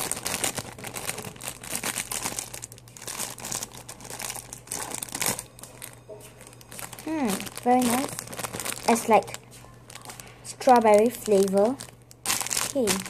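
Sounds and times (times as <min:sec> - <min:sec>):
wrapper crinkling and rustling: 0:00.0 - 0:13.0.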